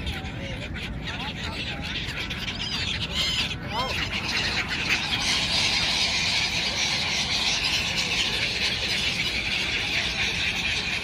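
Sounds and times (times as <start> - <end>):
flock of gulls calling: 0.0 - 11.0.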